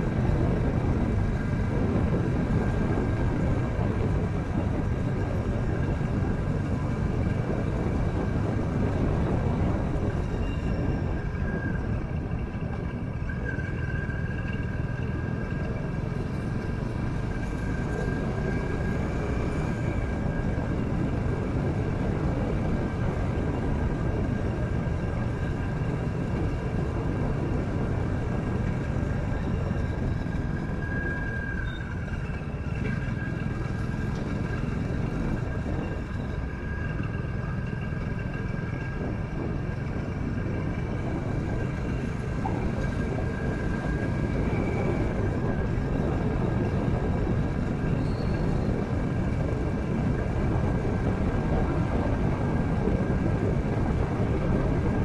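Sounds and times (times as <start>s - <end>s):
wind rush over microphone: 0.0s - 15.2s, 16.2s - 55.0s
motorcycle engine drone: 0.0s - 55.0s.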